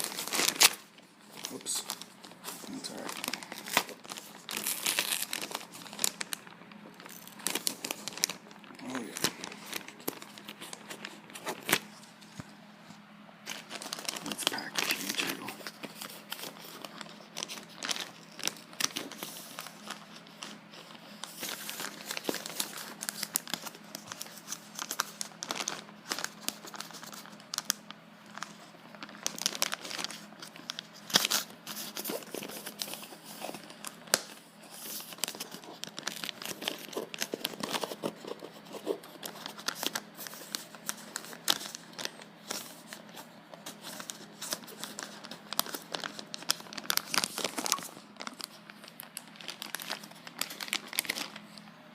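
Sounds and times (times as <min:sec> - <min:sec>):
plastic wrapping crinkling: 0:00.0 - 0:51.8.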